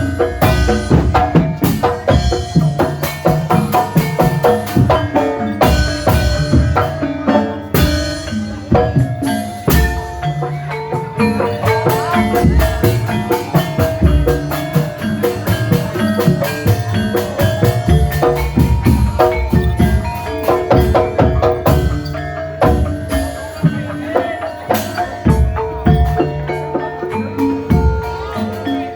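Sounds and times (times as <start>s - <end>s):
low drum beats: 0.0s - 28.7s
metallophones and gongs ringing: 0.0s - 28.9s.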